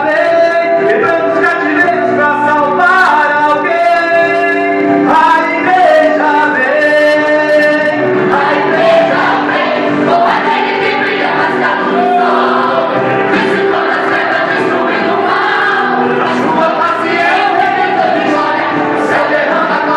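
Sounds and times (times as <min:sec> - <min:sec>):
vocal group singing in harmony: 0:00.0 - 0:19.9.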